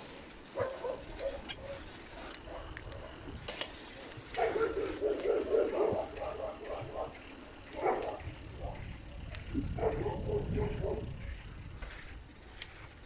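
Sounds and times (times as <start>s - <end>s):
wind rumble on microphone: 1.0s - 13.0s.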